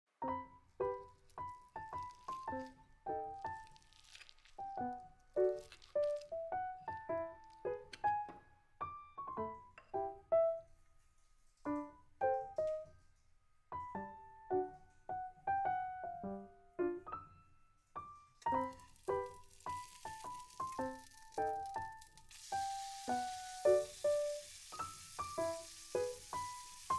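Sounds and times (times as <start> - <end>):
light piano tune: 0.1 - 26.9.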